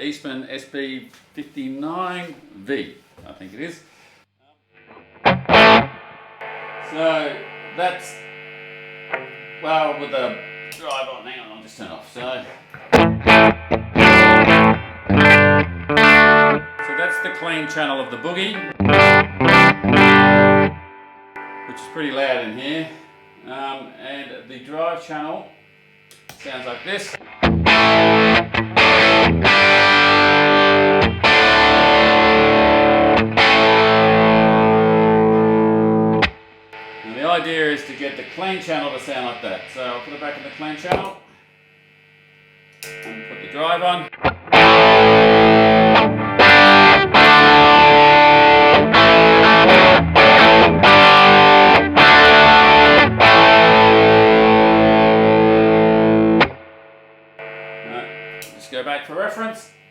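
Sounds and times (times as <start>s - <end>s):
overdriven electric guitar chords: 4.8s - 10.9s, 12.6s - 24.0s, 25.6s - 41.0s, 41.6s - 58.6s.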